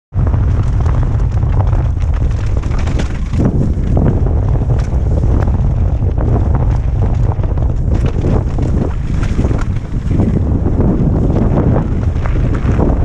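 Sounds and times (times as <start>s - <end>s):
tyres rumbling on dirt: 0.1s - 13.0s
wind buffeting microphone: 0.1s - 13.0s
bike rattling and knocking: 0.2s - 13.0s.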